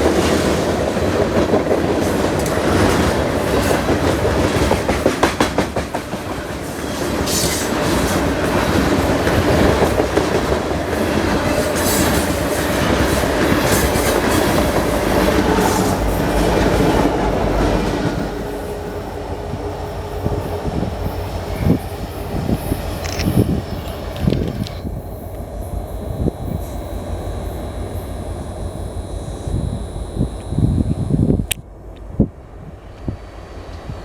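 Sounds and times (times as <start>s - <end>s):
train wheels clicking over rail joints: 0.0s - 28.7s
freight train rumble: 0.0s - 34.0s.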